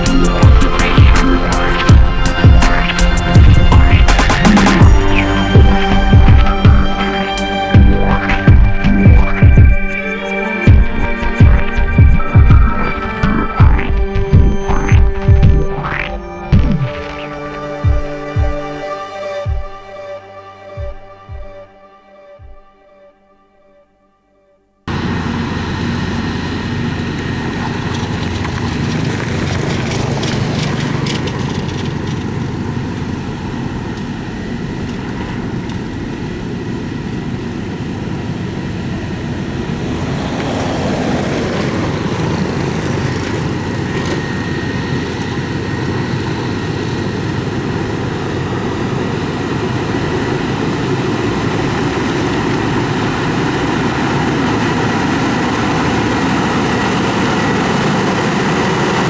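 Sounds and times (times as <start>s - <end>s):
diesel machinery engine running: 0.0s - 19.8s, 24.9s - 59.0s.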